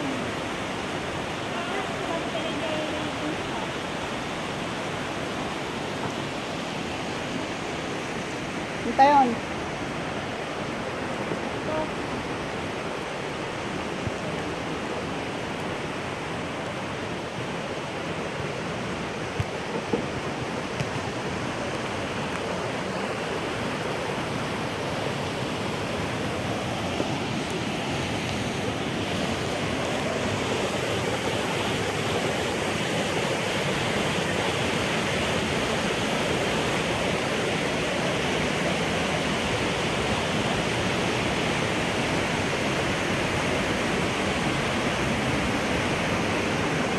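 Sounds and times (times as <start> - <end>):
river and waterfall rushing: 0.0 - 46.9.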